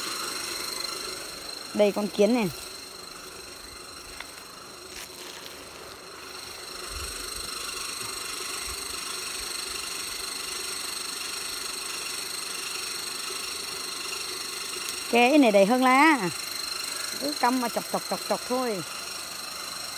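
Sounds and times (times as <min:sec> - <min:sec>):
machine drone with high whine: 0:00.0 - 0:19.9.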